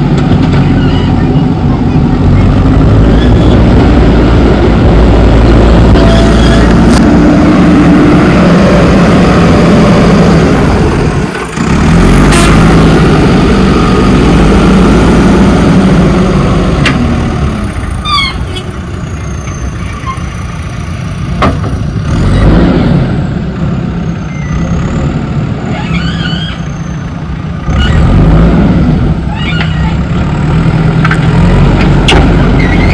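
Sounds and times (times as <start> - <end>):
diesel engine under load: 0.0 - 32.9.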